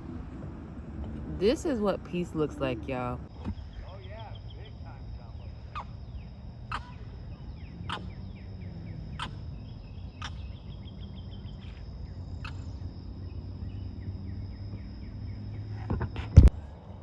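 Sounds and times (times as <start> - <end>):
low rumble: 0.0 - 15.7.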